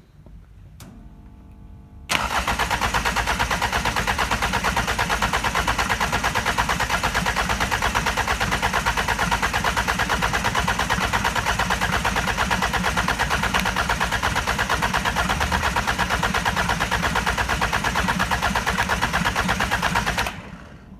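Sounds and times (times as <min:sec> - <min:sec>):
starter motor cranking engine: 0:02.1 - 0:20.9.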